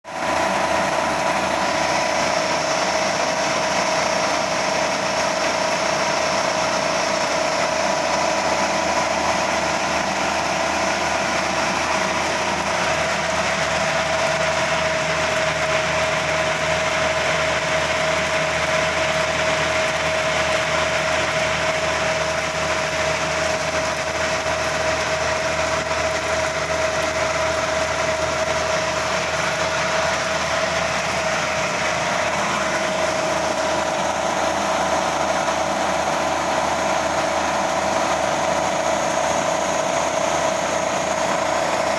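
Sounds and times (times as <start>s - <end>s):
grain mill motor hum and whine: 0.1s - 41.9s.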